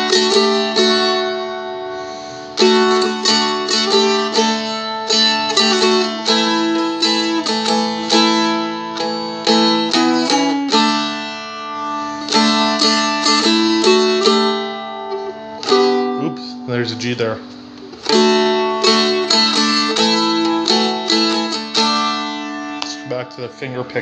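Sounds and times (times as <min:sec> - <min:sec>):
dulcimer strummed chords: 0:00.0 - 0:24.0.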